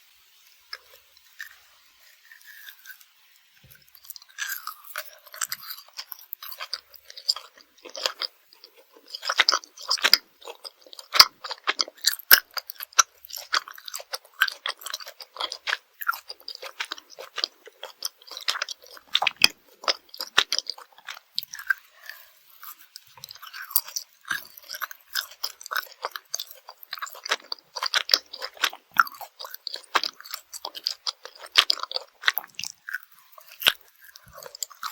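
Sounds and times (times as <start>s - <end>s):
chewing gummy candy: 0.7s - 34.9s.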